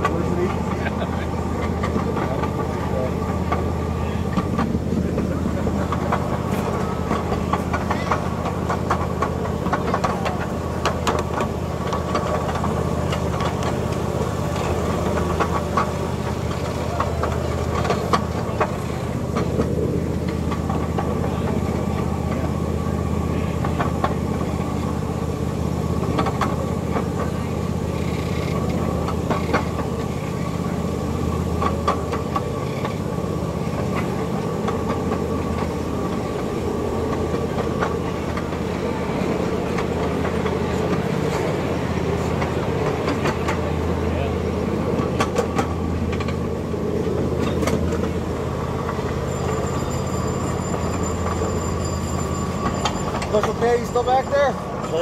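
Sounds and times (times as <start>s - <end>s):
miniature train engine hum: 0.0s - 55.0s
wheels clacking on rails: 0.0s - 55.0s.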